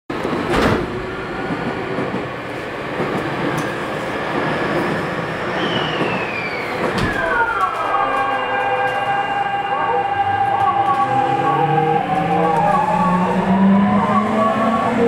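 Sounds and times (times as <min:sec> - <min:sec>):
electric train running gear rumble: 0:00.1 - 0:15.0.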